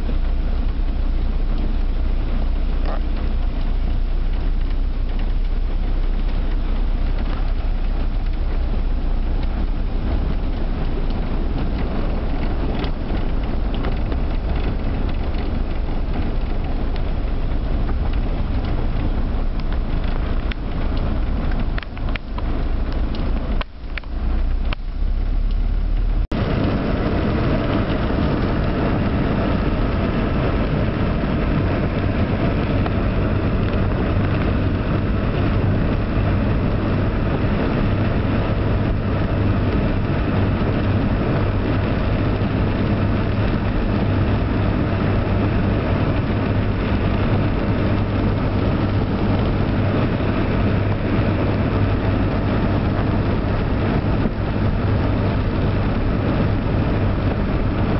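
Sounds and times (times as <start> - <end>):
low engine rumble: 0.0 - 57.9
rain and water under tyres: 0.0 - 57.9.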